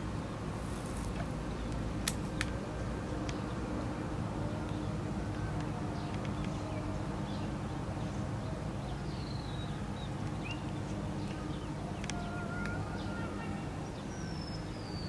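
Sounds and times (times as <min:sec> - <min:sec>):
low outdoor background hum: 0:00.0 - 0:15.0.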